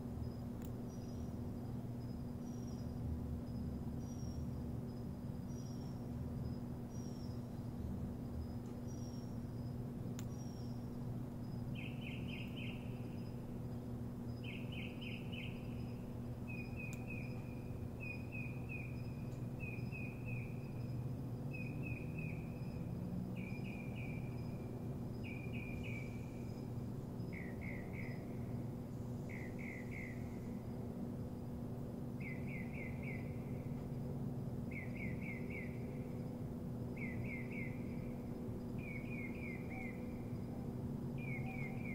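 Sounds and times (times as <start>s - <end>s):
low hum: 0.0s - 41.9s
songbird singing: 0.0s - 41.9s.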